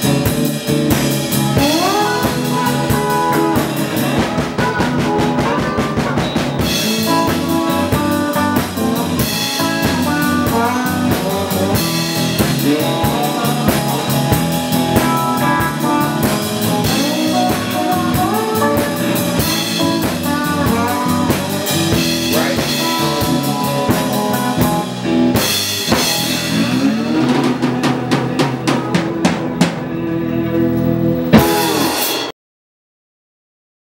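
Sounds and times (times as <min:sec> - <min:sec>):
electric blues band playing: 0:00.0 - 0:32.3.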